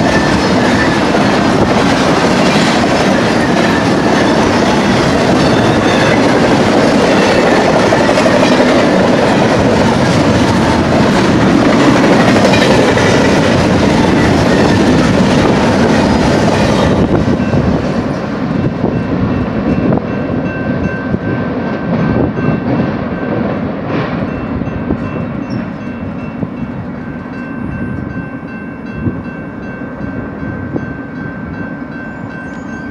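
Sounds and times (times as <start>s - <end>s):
clickety-clack over rail joints: 0.0s - 28.1s
freight train rolling past: 0.0s - 32.9s.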